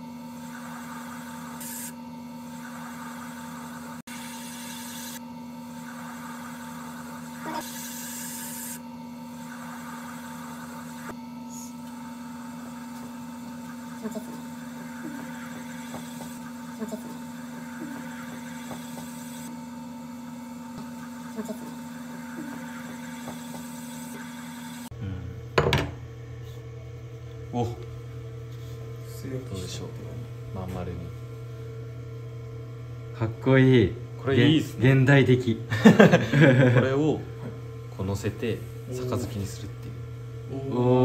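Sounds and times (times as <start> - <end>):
potter's wheel humming: 0.0 - 41.0.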